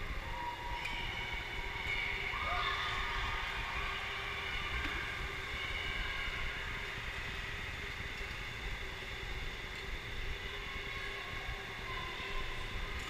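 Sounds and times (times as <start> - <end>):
faint high whine: 0.0 - 13.0
steady mechanical hum: 0.0 - 13.0.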